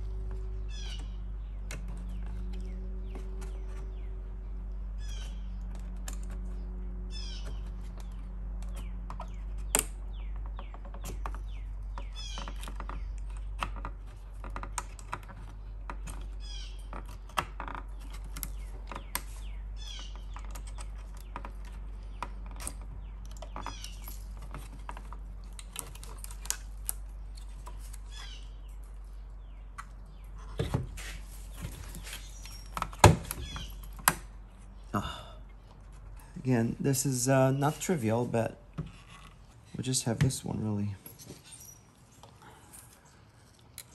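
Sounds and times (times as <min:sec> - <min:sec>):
bird chirping: 0:00.0 - 0:13.8, 0:15.4 - 0:26.4, 0:27.0 - 0:30.8, 0:31.4 - 0:43.5
steady low hum: 0:00.0 - 0:43.9.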